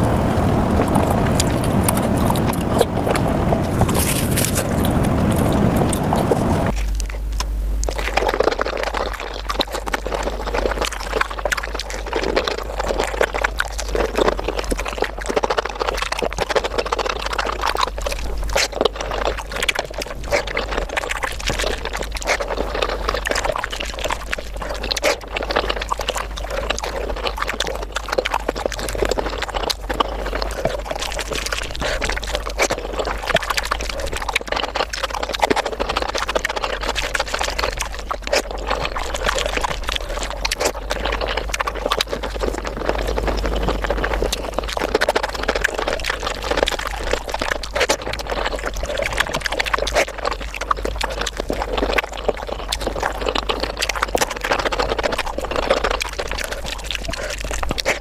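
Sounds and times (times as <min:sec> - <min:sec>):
fast wet chewing and smacks: 0:00.0 - 0:58.0
fingers squelching through rice: 0:00.9 - 0:58.0.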